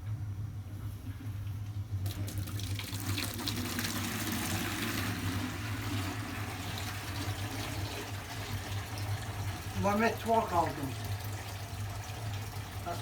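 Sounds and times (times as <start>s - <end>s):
water gushing into a pail: 2.0s - 13.0s.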